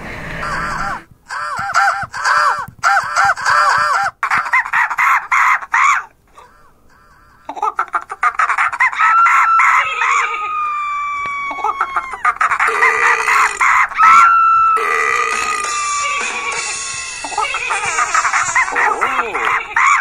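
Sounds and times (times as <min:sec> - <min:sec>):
birds squawking and clucking: 0:00.2 - 0:20.0.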